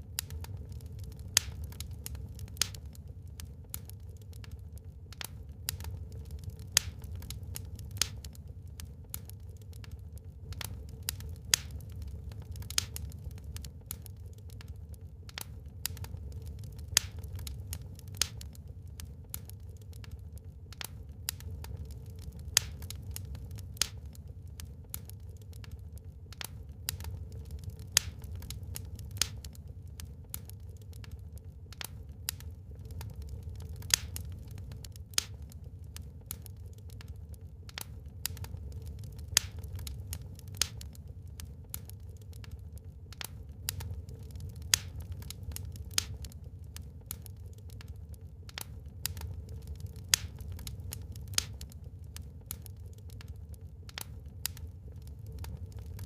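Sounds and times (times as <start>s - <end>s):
low rumble of flames: 0.0s - 56.0s
wood fire pops and snaps: 0.0s - 56.0s.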